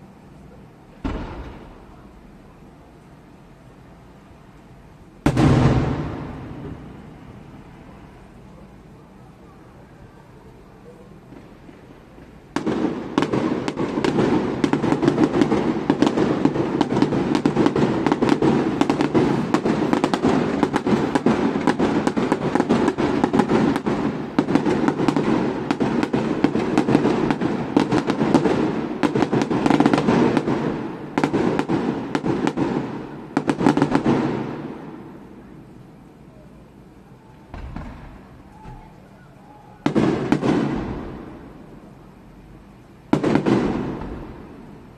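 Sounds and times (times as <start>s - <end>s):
fireworks bangs and crackles: 1.0s - 44.9s.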